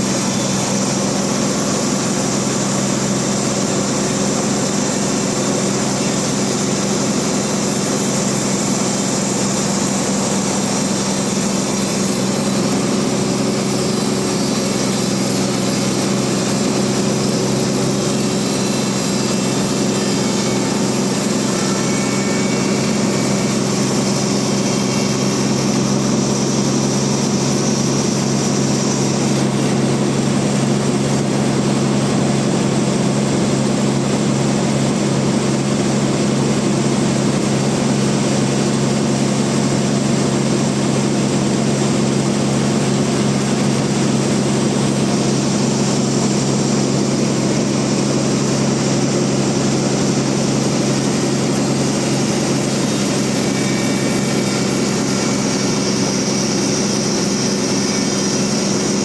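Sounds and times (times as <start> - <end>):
band sawmill droning: 0.0 - 59.0.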